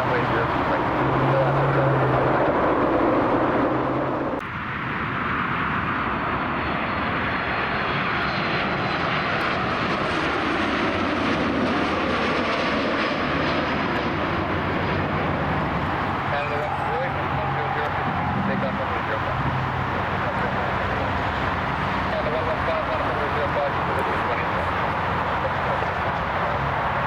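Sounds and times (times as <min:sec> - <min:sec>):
jet airliner engines roaring: 0:00.0 - 0:27.0.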